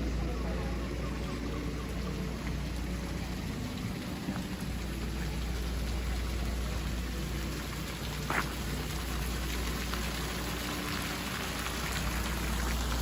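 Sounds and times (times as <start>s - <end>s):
water spattering on hard surface: 2.0s - 13.0s.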